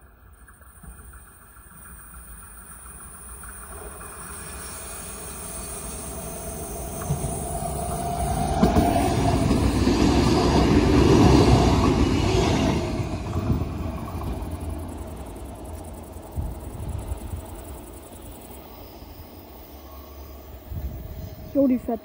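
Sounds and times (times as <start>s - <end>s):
steady whine: 0.0s - 22.0s
train wheels rumbling on rails: 0.0s - 22.0s.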